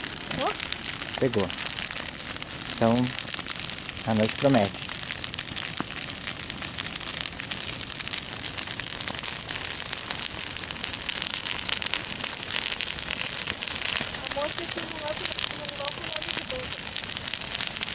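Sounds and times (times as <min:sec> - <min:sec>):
bonfire crackling: 0:00.0 - 0:17.9.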